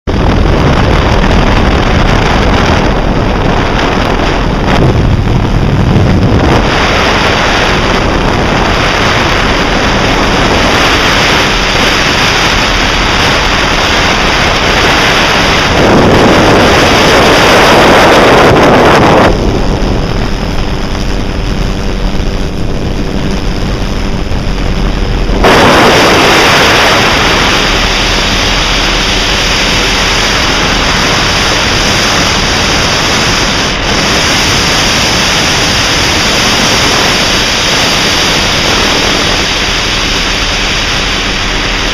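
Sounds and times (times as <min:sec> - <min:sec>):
wind buffeting microphone: 0:00.1 - 0:41.9.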